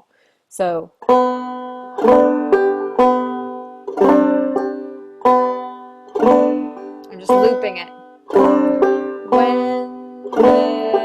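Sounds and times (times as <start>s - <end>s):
banjo strummed: 0.9s - 11.0s.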